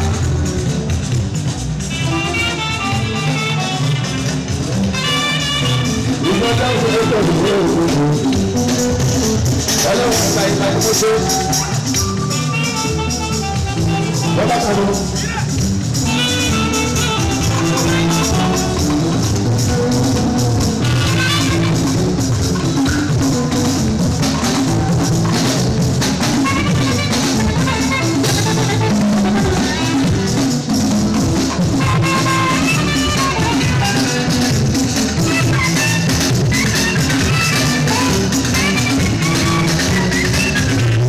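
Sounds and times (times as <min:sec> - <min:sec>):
bass guitar: 0:00.0 - 0:41.0
drums: 0:00.0 - 0:41.0
percussion rattles: 0:00.0 - 0:41.0.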